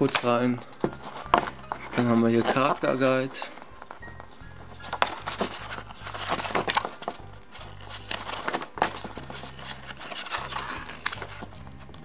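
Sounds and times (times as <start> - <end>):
pages rustling: 0.0 - 12.0
quiet background music: 0.0 - 12.0.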